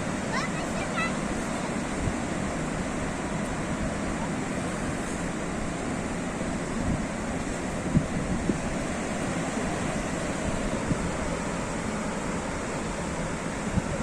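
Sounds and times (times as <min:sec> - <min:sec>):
sea waves washing onto shore: 0:00.0 - 0:14.0.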